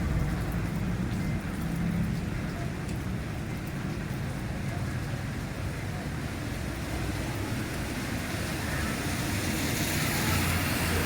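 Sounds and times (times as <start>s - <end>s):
heavy rain: 0.0s - 11.0s
road traffic on wet streets: 0.0s - 11.0s.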